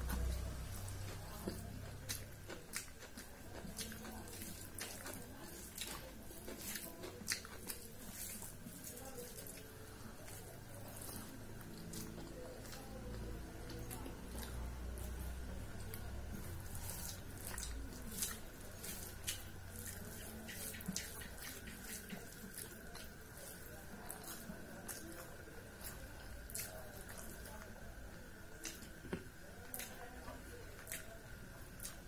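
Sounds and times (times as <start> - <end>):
fingers mixing rice on steel plate: 0.0 - 27.7
chewing smacks: 0.0 - 32.0.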